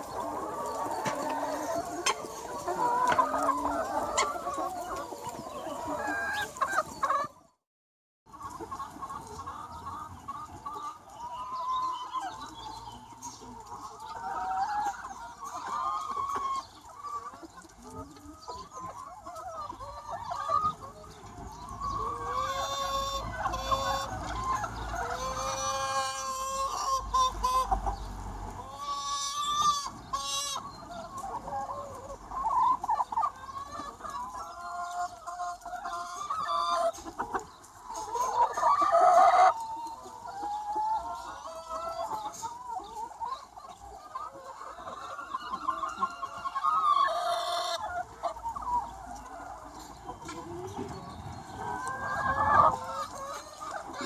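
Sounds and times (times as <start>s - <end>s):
chickens clucking and calling: 0.0s - 7.6s, 8.3s - 54.0s.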